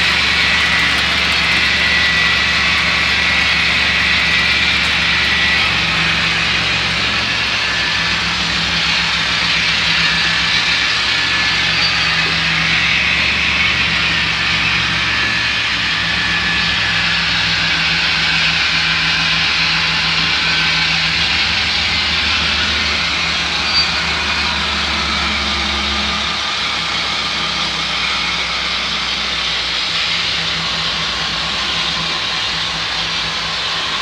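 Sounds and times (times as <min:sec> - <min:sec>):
model trains hissing: 0:00.0 - 0:34.0.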